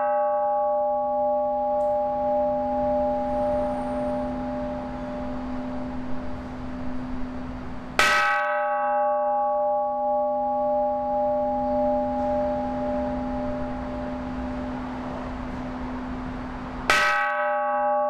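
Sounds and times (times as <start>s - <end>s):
temple bell struck with mallet: 0.0s - 16.2s, 16.8s - 18.0s.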